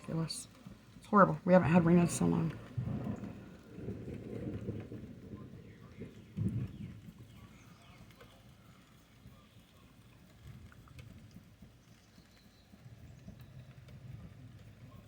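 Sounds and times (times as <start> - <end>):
faint low wind rumble: 0.0 - 15.0.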